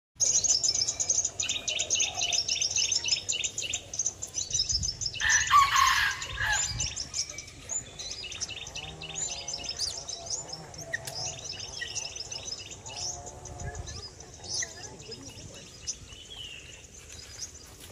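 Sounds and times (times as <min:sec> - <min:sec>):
small birds chirping: 0:00.2 - 0:17.9.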